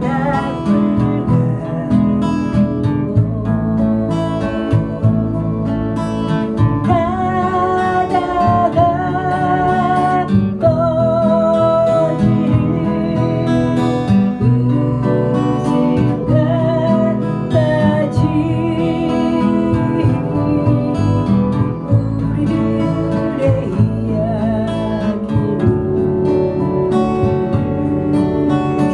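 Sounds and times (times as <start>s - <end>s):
acoustic guitar strumming chords: 0.0s - 28.9s.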